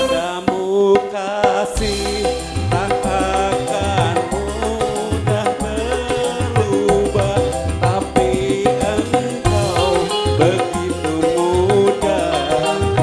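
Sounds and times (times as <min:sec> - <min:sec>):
bass: 0:00.0 - 0:00.3, 0:01.8 - 0:13.0
hand drums: 0:00.0 - 0:13.0
keyboard melody: 0:00.0 - 0:13.0
man singing into a microphone: 0:00.0 - 0:13.0.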